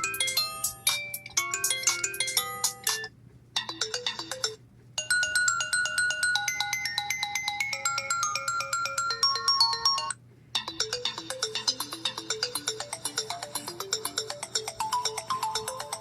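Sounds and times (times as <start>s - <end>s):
electronic ringtone melodies: 0.0s - 16.0s.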